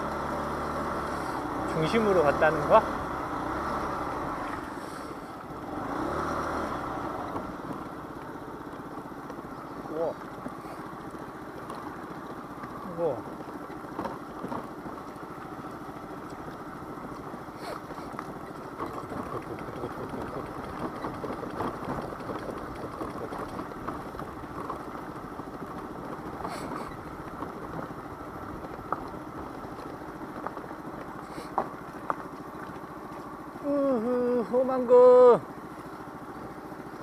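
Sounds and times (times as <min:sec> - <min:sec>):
scooter engine running: 0:00.0 - 0:37.0.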